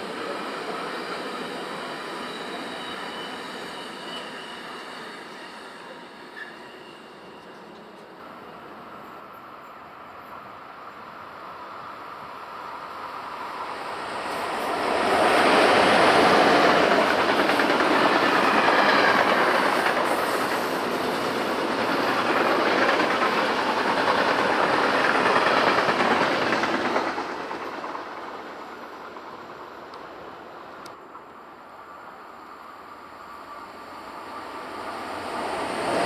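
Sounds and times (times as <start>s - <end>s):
electric train passing: 0.0s - 36.0s.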